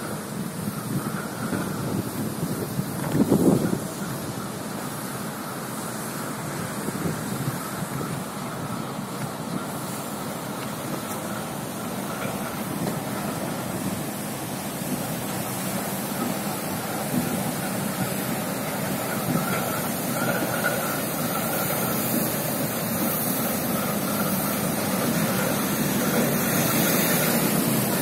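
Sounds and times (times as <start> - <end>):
diesel locomotive rolling: 0.0 - 28.0.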